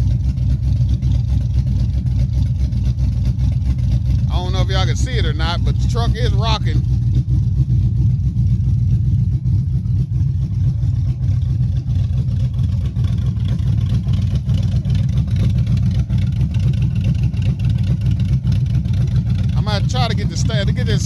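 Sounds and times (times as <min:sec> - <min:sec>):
truck engine idling with lope: 0:00.0 - 0:21.0.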